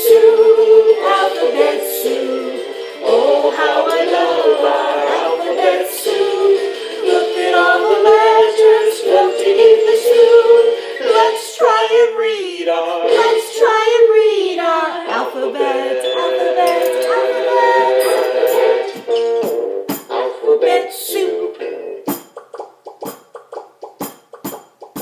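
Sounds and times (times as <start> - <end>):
children's song with singing voice: 0.0 - 25.0.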